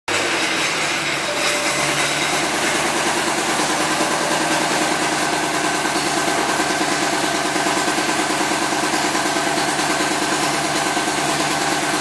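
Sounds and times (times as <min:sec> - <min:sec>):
car engine idling: 0:00.1 - 0:12.0.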